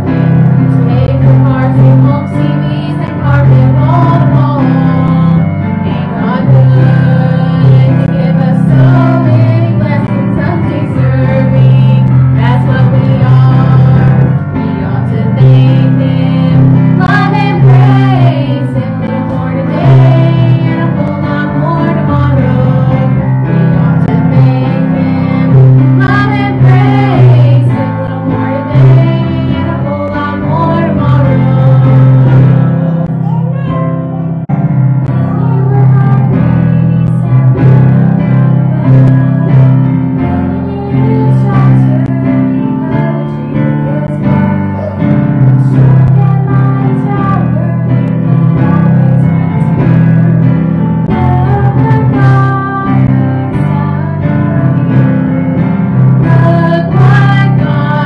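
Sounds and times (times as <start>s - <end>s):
instrumental accompaniment: 0.0s - 58.0s
woman singing church song: 0.7s - 33.2s, 35.0s - 50.4s, 51.0s - 58.0s.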